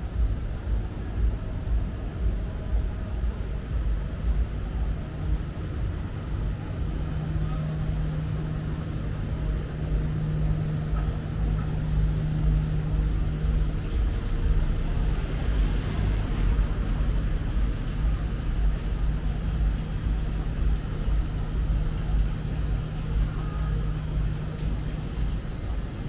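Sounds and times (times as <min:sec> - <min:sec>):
low street rumble: 0:00.0 - 0:26.0
vehicle engine humming: 0:00.0 - 0:26.0.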